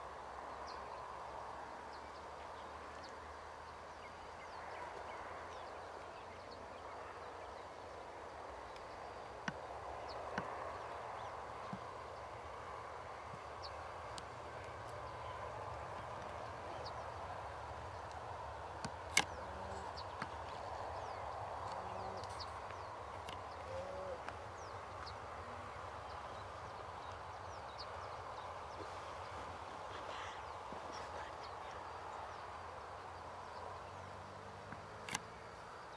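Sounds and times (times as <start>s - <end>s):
steady low hiss: 0.0s - 35.9s.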